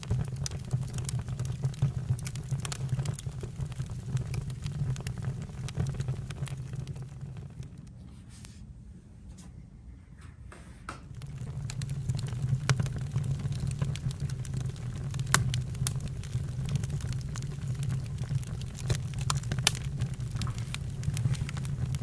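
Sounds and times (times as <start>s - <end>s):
campfire crackling and popping: 0.0s - 7.9s, 11.0s - 22.0s
low rumble of flame: 0.0s - 8.0s, 11.1s - 22.0s.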